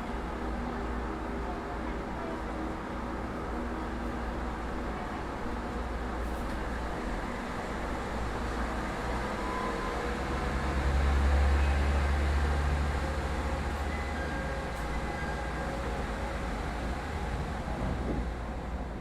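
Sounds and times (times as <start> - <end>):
train car hiss and rumble: 0.0 - 19.0.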